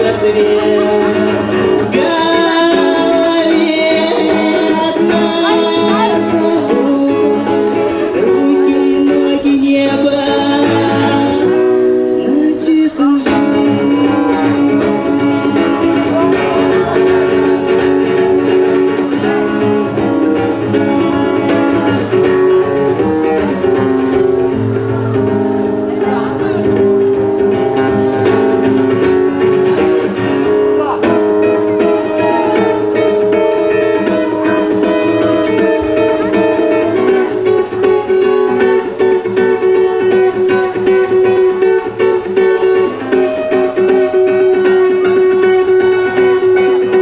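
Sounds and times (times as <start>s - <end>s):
acoustic guitar plucked and strummed: 0.0s - 47.0s
person singing: 0.0s - 47.0s.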